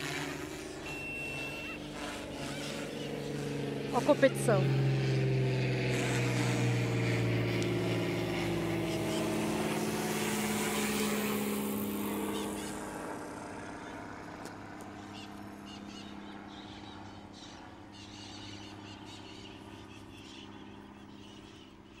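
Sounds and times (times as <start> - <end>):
rc helicopter rotor whir: 0.0 - 22.0.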